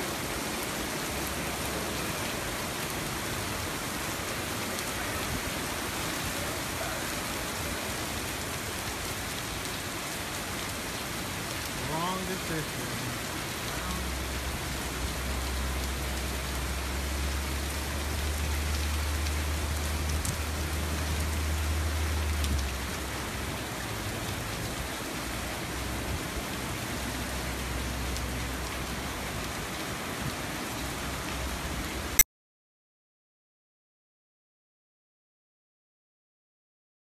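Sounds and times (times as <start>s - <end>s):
heavy rain on pavement: 0.0s - 32.2s.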